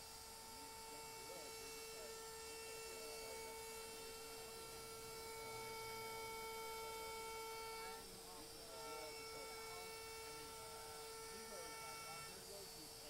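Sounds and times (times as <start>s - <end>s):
trim router whining: 0.0s - 13.0s
faint chatter of people: 0.2s - 13.0s.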